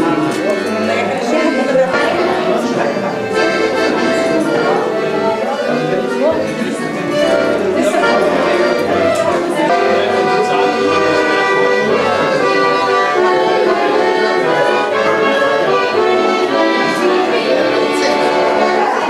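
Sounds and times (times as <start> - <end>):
accordion music: 0.0 - 19.0.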